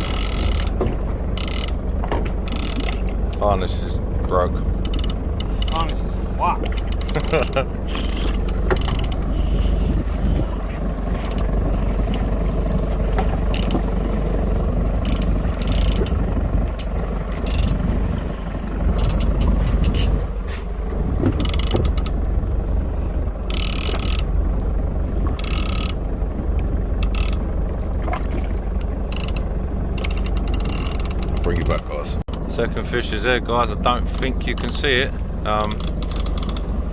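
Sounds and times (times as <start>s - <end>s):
boat engine and water rumble: 0.0s - 36.9s.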